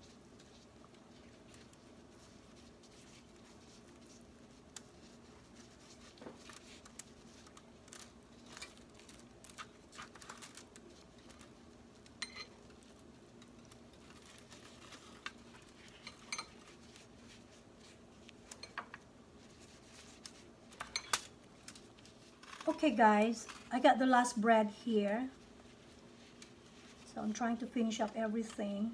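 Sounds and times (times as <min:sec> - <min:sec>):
faint steady hum: 0:00.0 - 0:28.9
taps and foil crinkles: 0:00.2 - 0:24.4.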